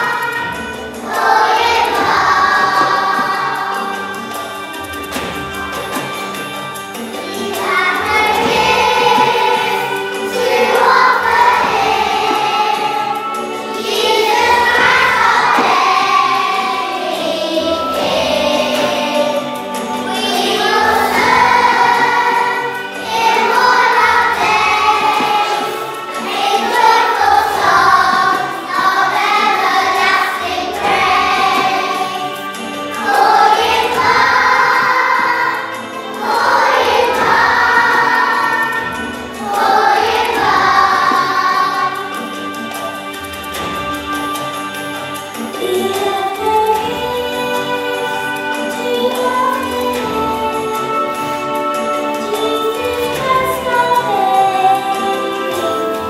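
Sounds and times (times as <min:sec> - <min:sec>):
children's choir singing: 0:00.0 - 0:56.0
musical accompaniment: 0:00.0 - 0:56.0.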